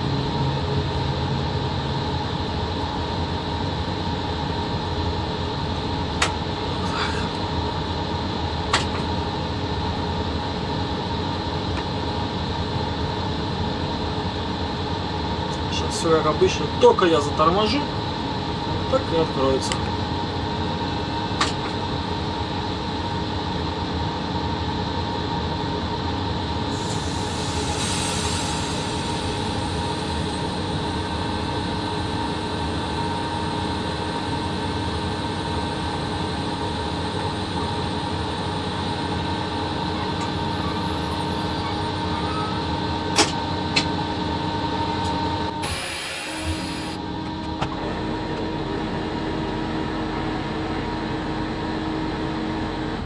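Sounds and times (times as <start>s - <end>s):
electric locomotive hum and rumble: 0.0s - 53.0s.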